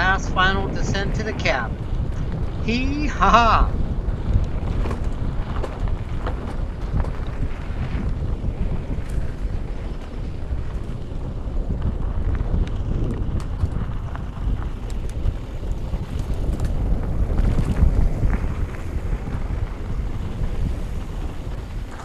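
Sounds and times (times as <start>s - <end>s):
wind buffeting microphone: 0.0s - 22.0s
bike clicks and rattles: 1.7s - 2.7s, 3.7s - 22.0s.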